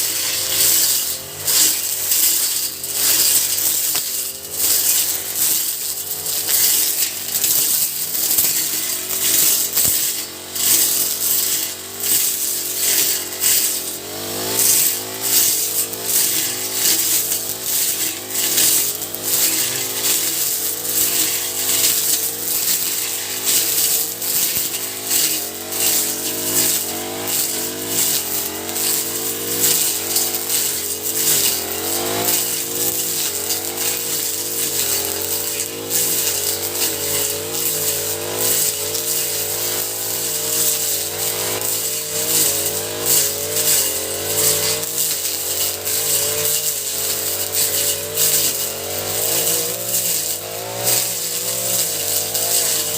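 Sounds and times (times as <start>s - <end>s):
brush cutter engine running: 0.0s - 52.9s.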